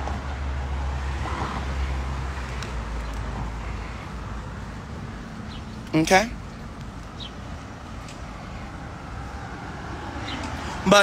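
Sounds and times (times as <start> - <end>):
low rumble of passing cars: 0.0 - 11.0.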